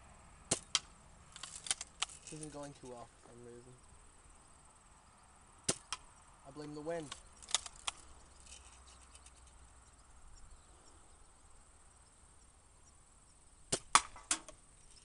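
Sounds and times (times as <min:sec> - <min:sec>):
insects chirring: 0:00.2 - 0:15.0.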